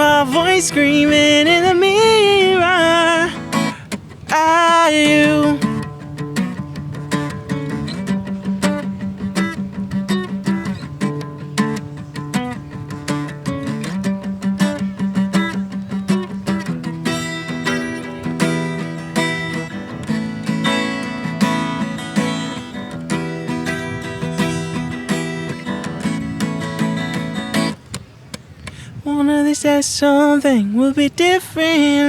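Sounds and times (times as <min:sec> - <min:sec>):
acoustic guitar playing: 0:00.0 - 0:28.6.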